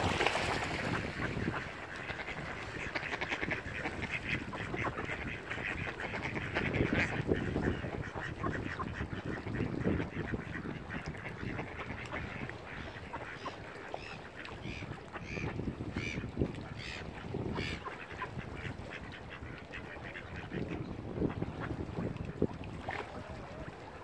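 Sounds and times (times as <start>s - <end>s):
ducks quacking: 0.7s - 23.8s.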